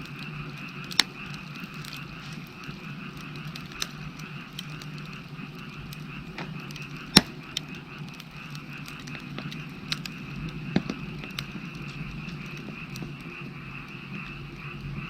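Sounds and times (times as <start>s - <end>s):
frogs croaking chorus: 0.0s - 15.0s
wood fire crackling and popping: 0.0s - 15.0s.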